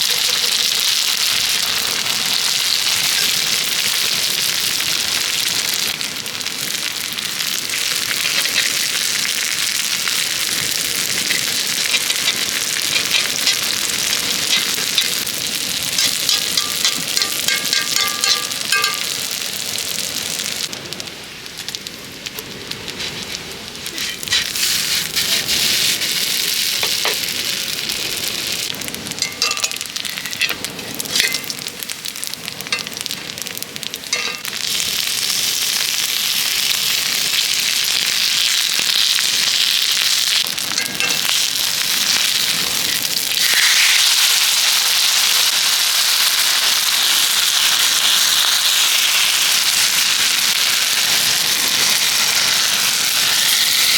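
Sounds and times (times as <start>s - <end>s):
crackles and pops: 0.0s - 53.9s
food sizzling on griddle: 0.0s - 53.9s.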